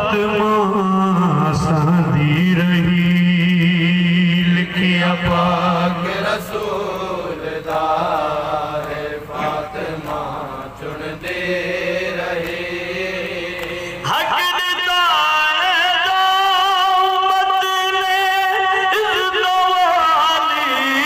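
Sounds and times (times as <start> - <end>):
men chanting over loudspeaker: 0.0 - 21.0.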